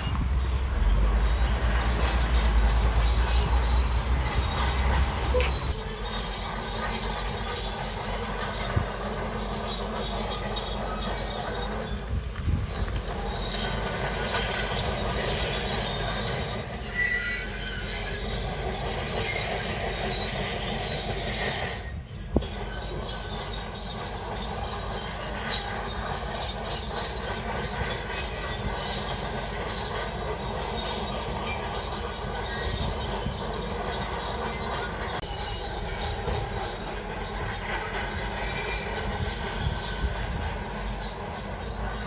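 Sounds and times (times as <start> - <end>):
steel tracks squealing and clanking: 0.0 - 42.0.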